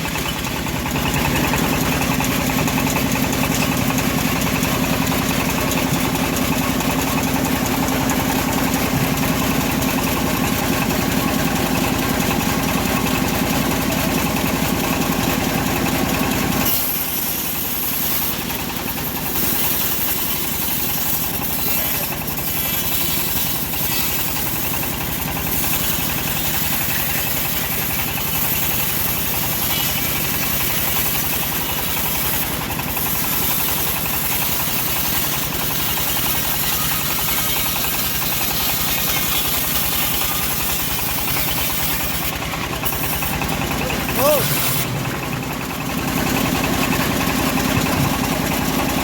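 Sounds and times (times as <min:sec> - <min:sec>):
band blade sawing log: 0:00.0 - 0:49.0
sawmill engine running: 0:00.0 - 0:49.0.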